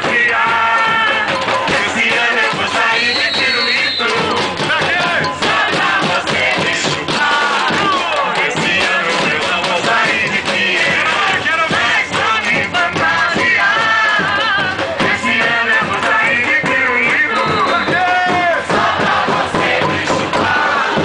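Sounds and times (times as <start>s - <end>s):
amplified singer: 0.0s - 21.0s
crowd singing along: 0.0s - 21.0s
drums: 0.0s - 21.0s.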